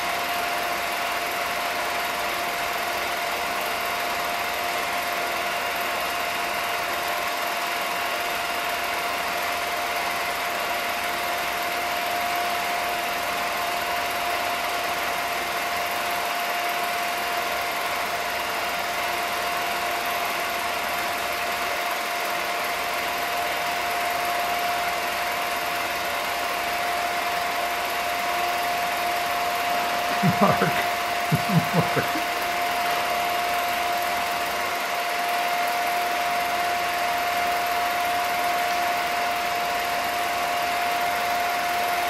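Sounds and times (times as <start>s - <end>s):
film projector whirring: 0.0s - 42.0s.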